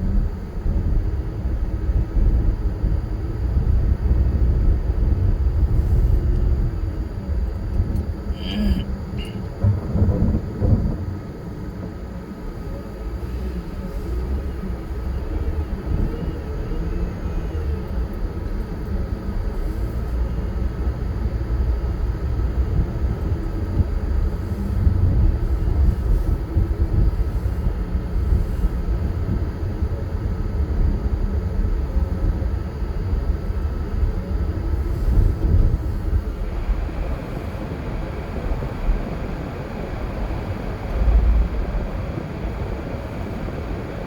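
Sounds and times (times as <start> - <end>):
car driving on road: 0.0 - 44.0.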